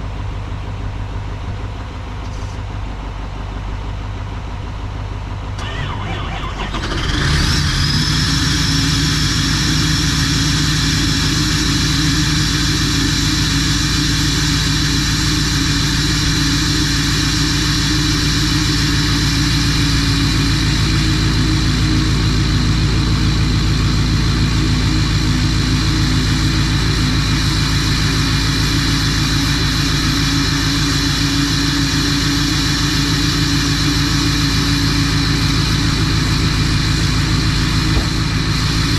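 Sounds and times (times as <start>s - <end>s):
diesel engine starting and idling: 0.0s - 38.9s
rising whine: 5.6s - 38.9s.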